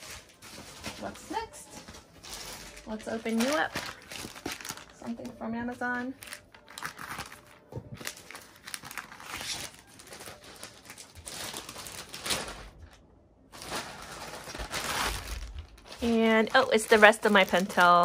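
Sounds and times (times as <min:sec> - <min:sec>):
plastic mailer bag crinkling: 0:00.0 - 0:18.0.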